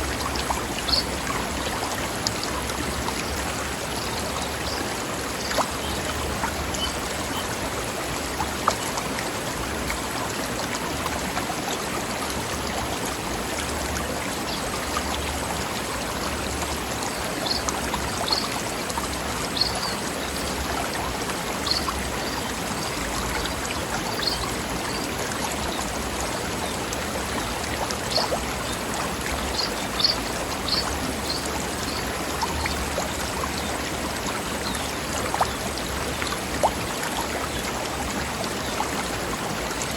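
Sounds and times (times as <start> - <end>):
stream flowing over rocks: 0.0 - 39.9
water splashes: 0.0 - 39.9.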